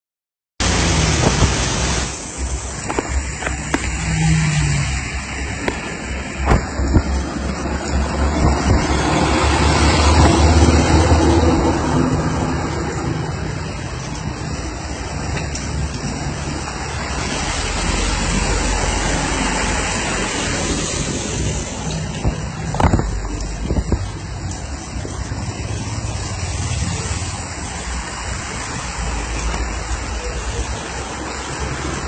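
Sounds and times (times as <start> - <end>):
heavy rain pouring: 0.6 - 32.0.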